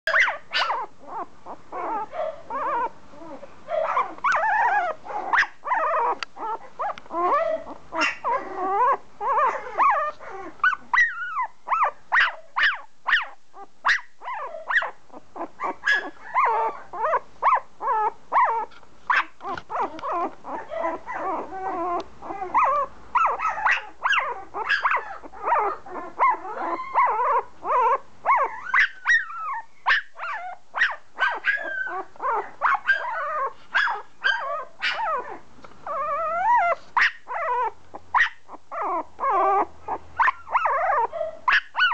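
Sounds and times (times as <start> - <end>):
puppy whimpering and yelping: 0.1 - 41.9.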